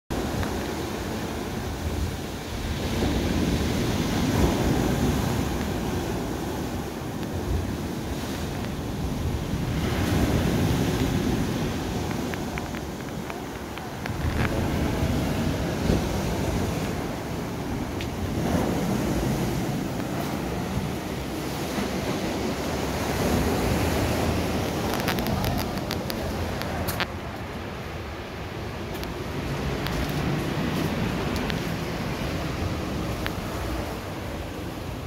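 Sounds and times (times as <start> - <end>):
wind buffeting microphone: 0.1 - 35.0.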